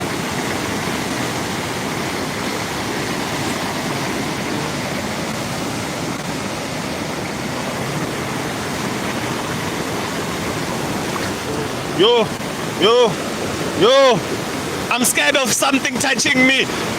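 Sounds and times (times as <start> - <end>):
floodwater rushing: 0.0 - 16.9.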